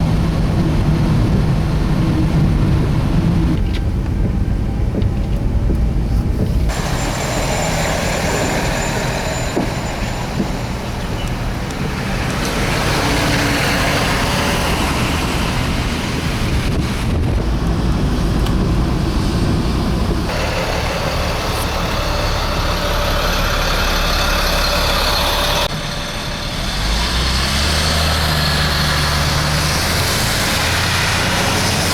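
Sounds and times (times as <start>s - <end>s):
highway traffic rumble: 0.0s - 31.9s.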